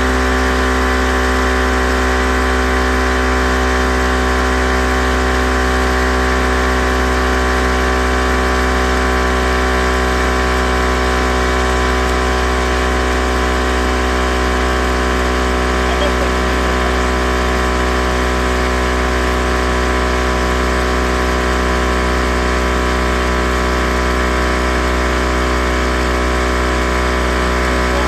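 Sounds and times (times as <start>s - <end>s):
air compressor running: 0.0s - 28.0s.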